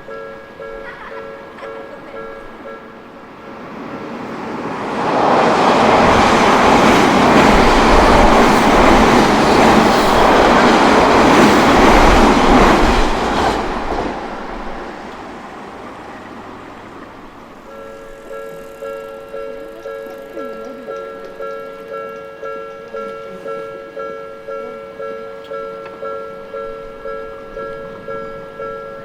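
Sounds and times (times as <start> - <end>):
electric train wheels rumbling: 0.0 - 23.0, 23.7 - 29.0.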